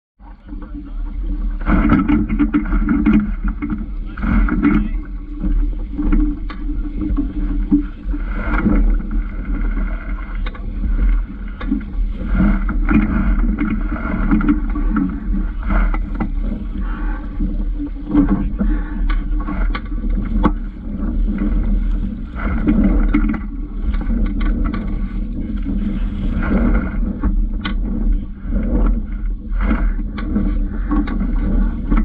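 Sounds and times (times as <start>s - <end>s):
water swishing: 0.2s - 32.0s
wind rumble on microphone: 0.2s - 32.0s.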